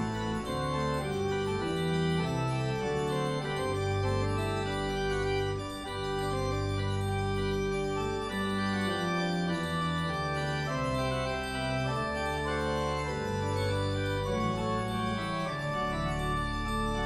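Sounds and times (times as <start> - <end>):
church organ playing chords: 0.0 - 17.0.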